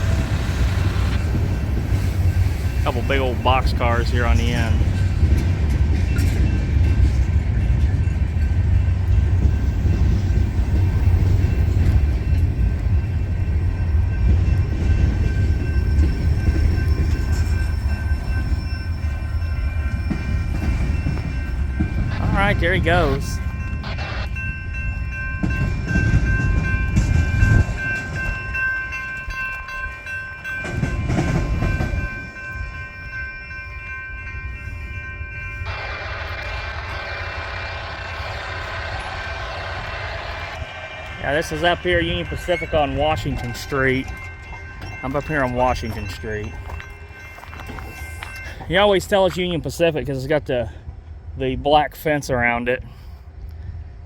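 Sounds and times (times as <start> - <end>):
crossing warning bell ringing: 0.0 - 51.2
train wheels rumbling on rails: 0.0 - 54.0.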